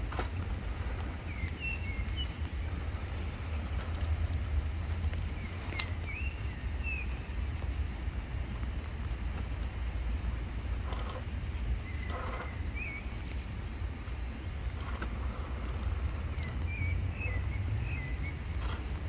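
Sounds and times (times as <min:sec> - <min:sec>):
wind rumble on microphone: 0:00.0 - 0:19.0
bird chirps: 0:00.8 - 0:04.3, 0:05.3 - 0:19.0.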